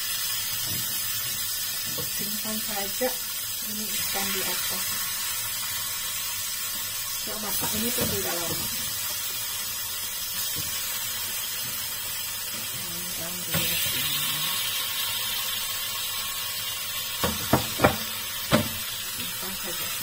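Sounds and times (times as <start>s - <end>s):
fish sizzling in a frying pan: 0.0s - 20.0s.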